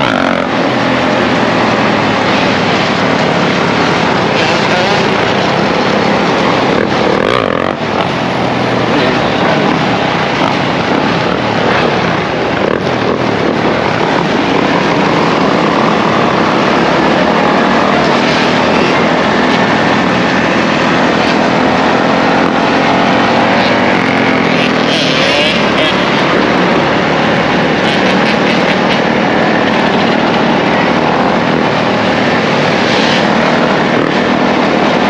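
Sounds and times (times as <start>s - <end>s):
dirt bike engines running: 0.0s - 35.0s.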